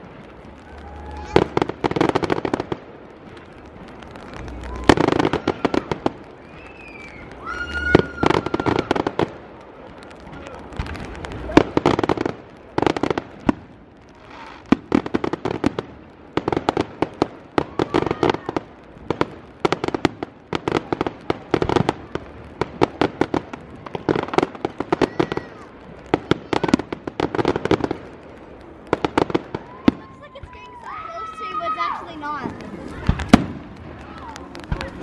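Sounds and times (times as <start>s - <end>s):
fireworks crackling and banging: 0.0s - 35.0s.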